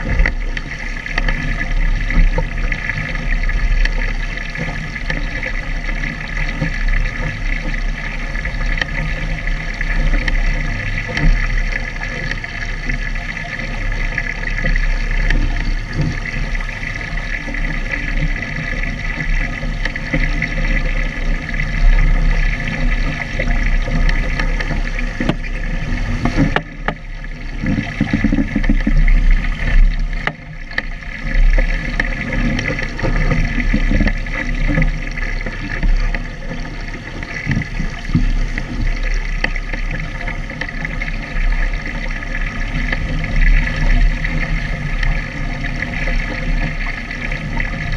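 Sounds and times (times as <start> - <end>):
water rushing along a boat hull: 0.0 - 47.9.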